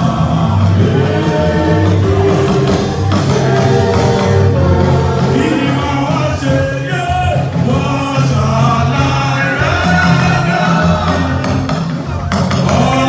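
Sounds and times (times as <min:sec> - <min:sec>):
group singing gospel music: 0:00.0 - 0:13.0
steady bass line: 0:00.0 - 0:13.0.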